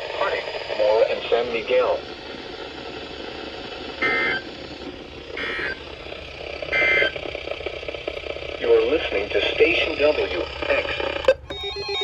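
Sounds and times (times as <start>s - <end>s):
steady radio hiss: 0.0s - 11.4s.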